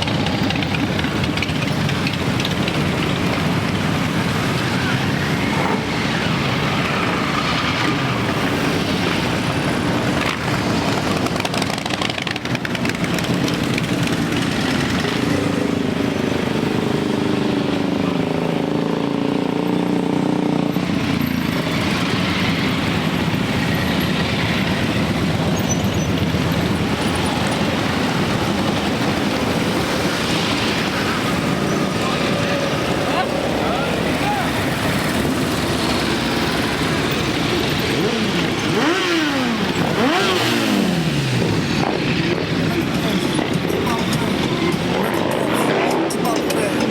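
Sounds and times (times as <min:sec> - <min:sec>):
many motorcycle engines: 0:00.0 - 0:46.9.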